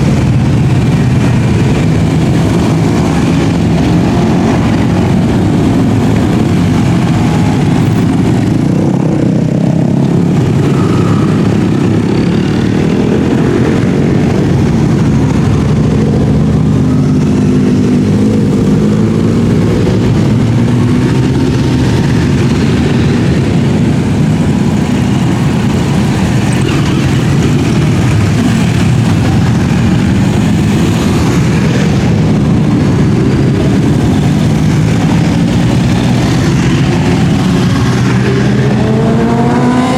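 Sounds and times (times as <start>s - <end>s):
motorcycles riding past: 0.0s - 39.9s.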